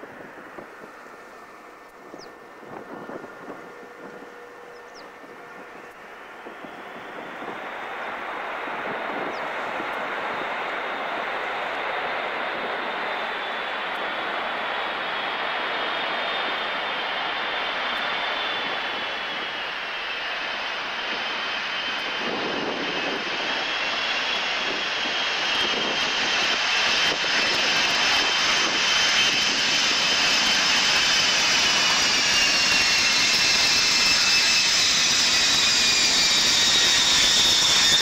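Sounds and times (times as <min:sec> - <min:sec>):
high jet engine whine: 0:00.0 - 0:38.0
jet airliner landing: 0:00.0 - 0:38.0.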